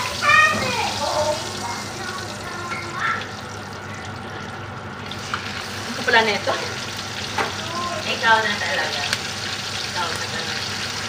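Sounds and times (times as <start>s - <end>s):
steak sizzling in hot oil: 0.0s - 11.0s.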